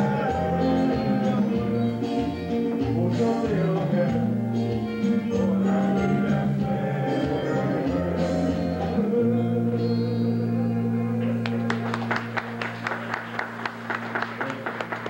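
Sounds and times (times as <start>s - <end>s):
live band music with singing: 0.0s - 13.9s.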